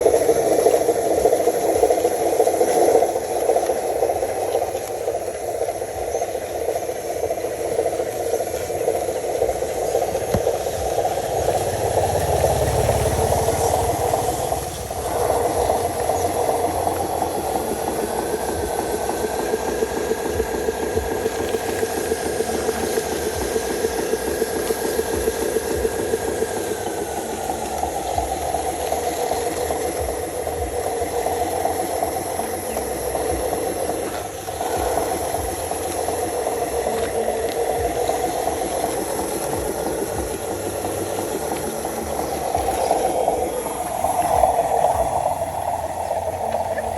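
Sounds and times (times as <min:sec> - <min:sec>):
faint whine: 0:00.0 - 0:46.9
model truck motor whirring: 0:06.9 - 0:46.9.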